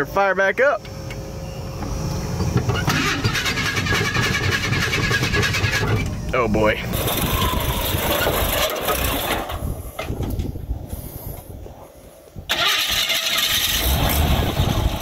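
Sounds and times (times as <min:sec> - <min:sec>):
engine cranking and running: 0:00.8 - 0:10.5, 0:12.5 - 0:15.0.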